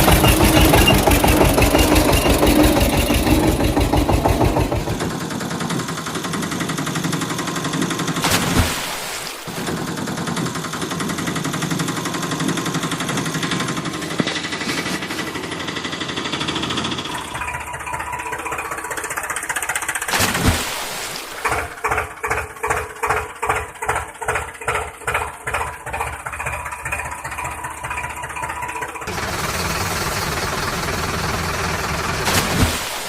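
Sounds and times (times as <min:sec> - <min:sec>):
engine chugging: 0:00.0 - 0:08.6, 0:09.4 - 0:20.5, 0:21.2 - 0:33.0.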